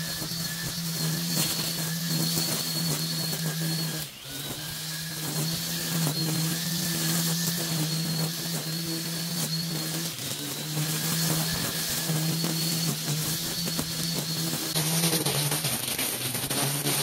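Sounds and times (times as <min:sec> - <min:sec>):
string trimmer cutting grass: 0:00.0 - 0:17.0.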